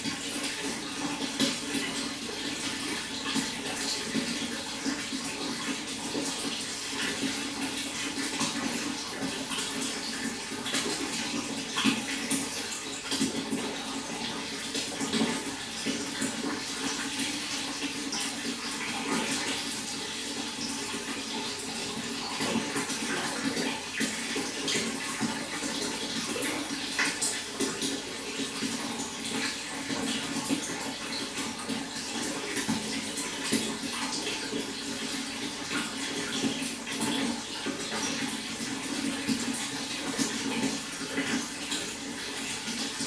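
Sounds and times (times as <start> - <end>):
running water with splashes: 0.0 - 43.0.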